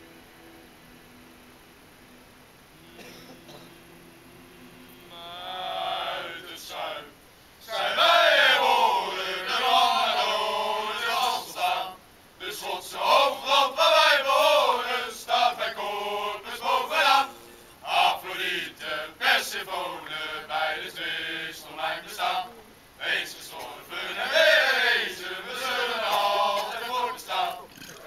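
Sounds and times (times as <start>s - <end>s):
men singing together: 3.0s - 28.0s.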